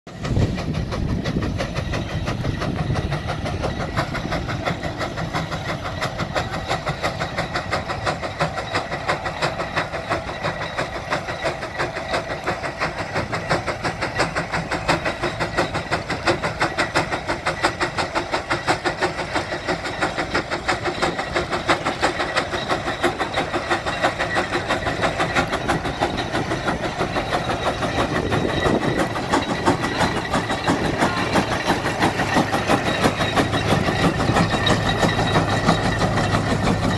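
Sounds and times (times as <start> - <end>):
steam engine exhaust chuffing: 0.1 - 36.9.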